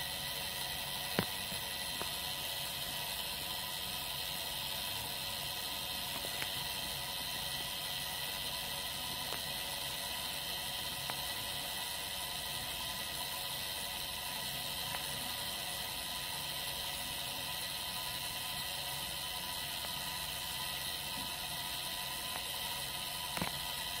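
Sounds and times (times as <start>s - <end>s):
clock gears whirring: 0.0s - 24.0s.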